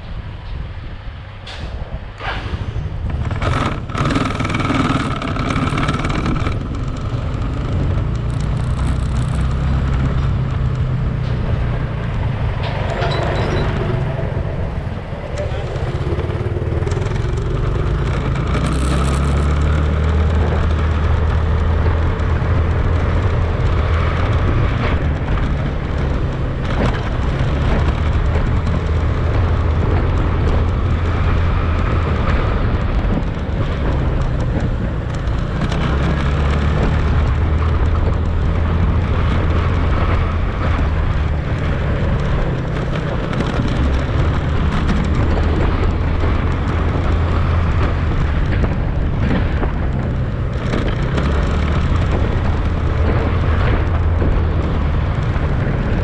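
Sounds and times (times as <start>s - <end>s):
wind rumble on microphone: 0.0s - 56.0s
motorcycle engine running: 2.9s - 56.0s.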